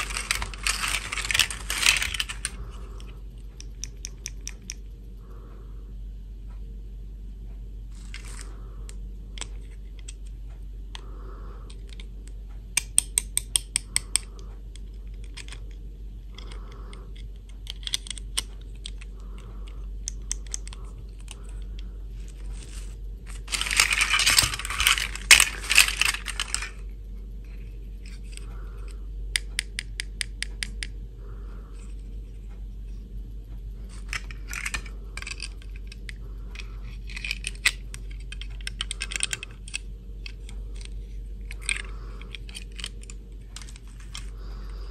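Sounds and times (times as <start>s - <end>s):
plastic doll parts clicking: 0.0s - 4.9s, 7.9s - 10.3s, 10.9s - 26.8s, 28.0s - 30.9s, 33.9s - 44.9s.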